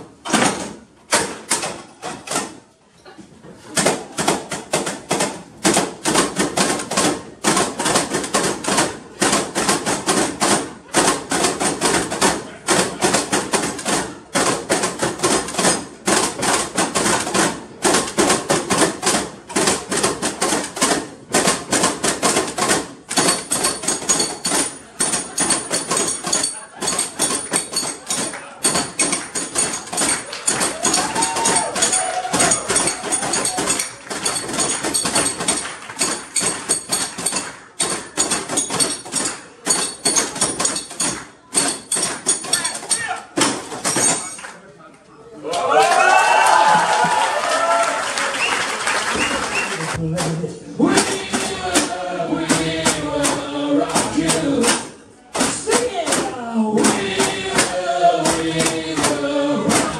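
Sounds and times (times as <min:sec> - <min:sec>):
toolboxes played as percussion: 0:00.0 - 0:02.7, 0:03.7 - 0:44.4, 0:49.2 - 0:59.9.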